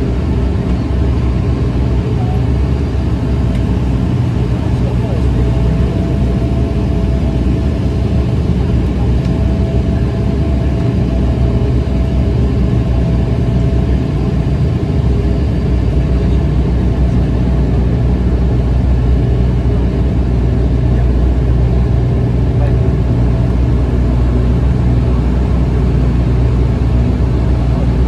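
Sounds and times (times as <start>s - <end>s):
turboprop engine drone: 0.0s - 28.0s.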